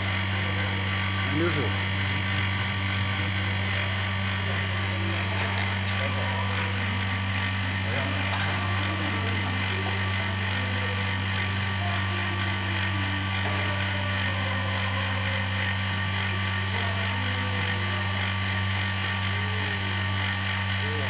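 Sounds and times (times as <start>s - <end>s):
vacuum pump humming and hissing: 0.0s - 21.0s.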